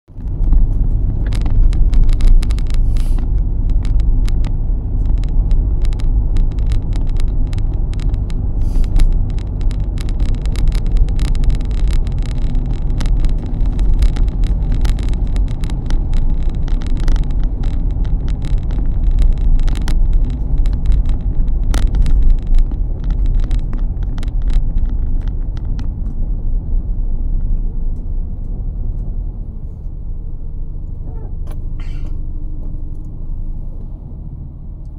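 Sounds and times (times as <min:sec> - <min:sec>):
small clicks and rattles: 0:00.1 - 0:30.0
tyre and engine rumble: 0:00.1 - 0:34.9.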